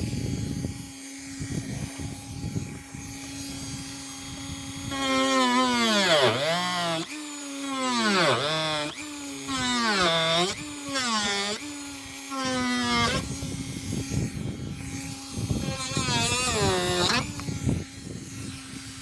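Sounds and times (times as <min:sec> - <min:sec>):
power drill motor revving: 0:00.0 - 0:19.0.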